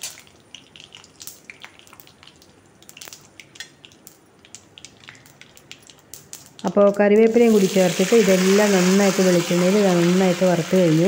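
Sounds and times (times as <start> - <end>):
chillies frying in oil: 0.0 - 11.0.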